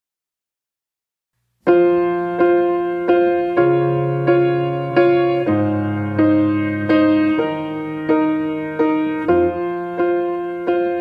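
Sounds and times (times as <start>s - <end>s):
keyboard chords over bass line: 1.7s - 11.0s.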